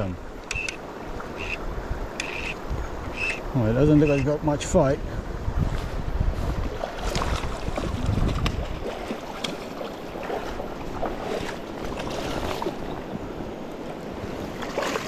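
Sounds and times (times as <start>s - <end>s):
stony river running: 0.0s - 15.0s
wind buffeting microphone: 0.0s - 15.0s.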